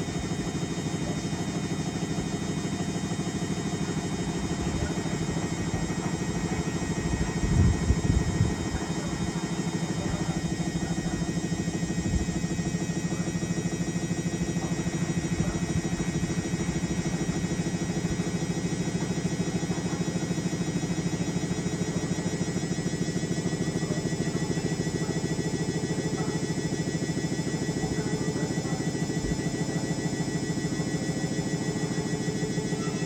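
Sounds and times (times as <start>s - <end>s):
washing machine running: 0.0s - 33.0s.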